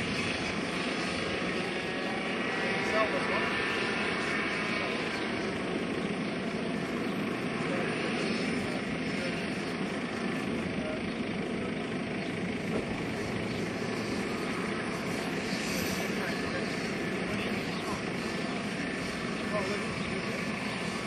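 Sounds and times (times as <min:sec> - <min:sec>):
gas turbine whine: 0:00.0 - 0:21.0
helicopter rotor wash: 0:00.0 - 0:21.0.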